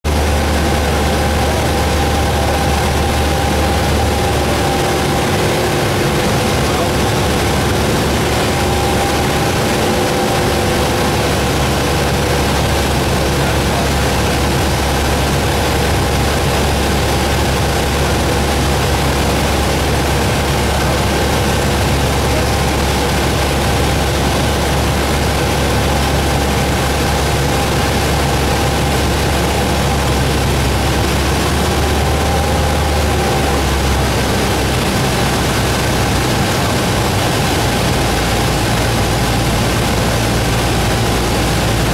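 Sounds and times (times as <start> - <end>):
light airplane engine drone: 0.0 - 41.9.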